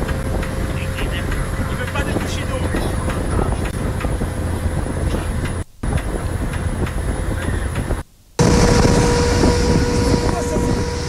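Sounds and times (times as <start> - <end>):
motorboat engine rumbling: 0.0 - 11.0
wind buffeting microphone: 0.0 - 11.0.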